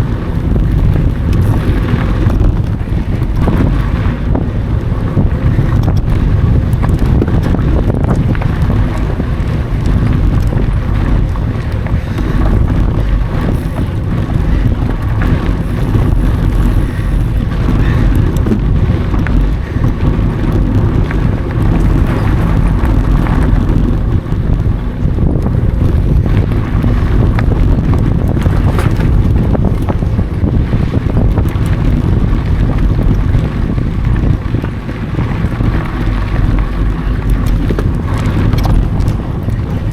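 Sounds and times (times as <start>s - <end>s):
wind on microphone: 0.0s - 39.9s
bike knocks: 0.1s - 39.9s.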